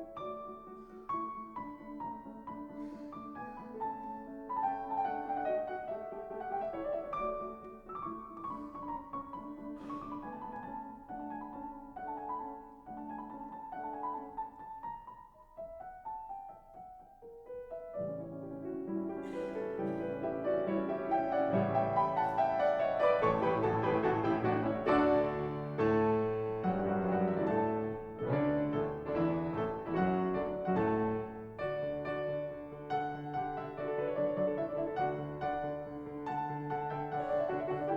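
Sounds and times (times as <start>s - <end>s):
piano music: 0.0s - 37.9s.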